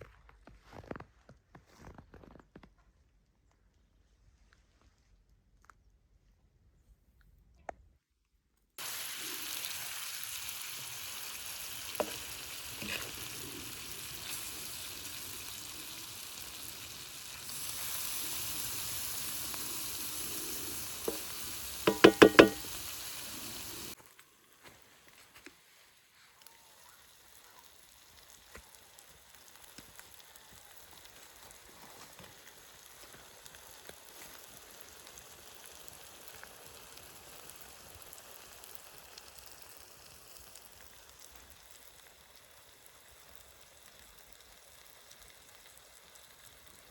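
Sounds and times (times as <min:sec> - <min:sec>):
chicken sizzling in a pan: 0:08.8 - 0:46.9
faint hiss: 0:08.8 - 0:46.9.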